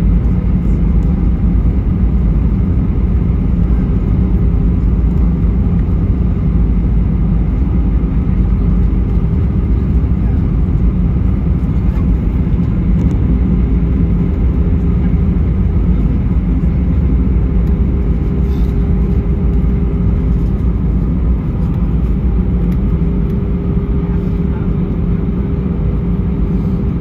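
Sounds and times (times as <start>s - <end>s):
aircraft engines and wheels rumbling: 0.0s - 27.0s.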